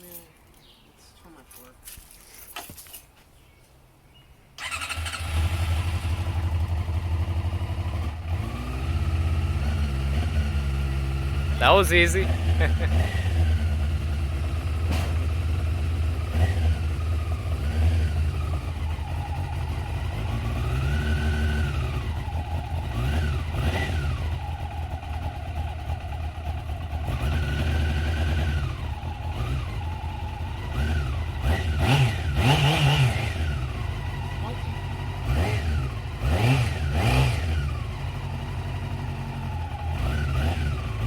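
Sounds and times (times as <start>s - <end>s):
motorcycle engine revving: 4.6s - 41.0s.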